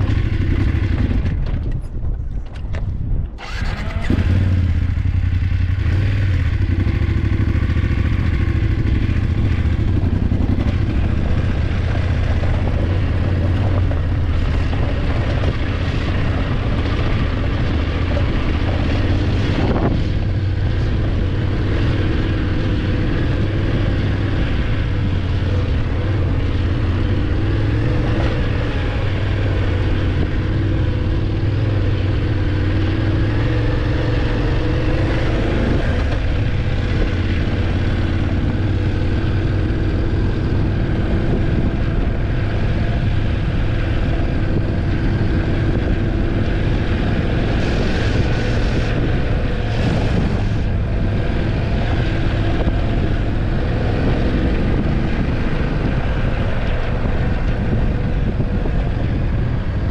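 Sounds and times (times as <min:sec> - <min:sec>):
motorcycle engine running: 0:00.0 - 0:02.3, 0:02.9 - 0:59.9
road noise: 0:00.0 - 0:59.9.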